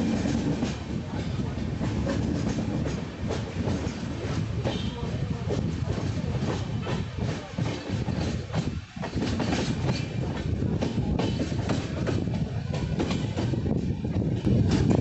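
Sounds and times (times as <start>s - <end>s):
train coach rumble: 0.0s - 15.0s.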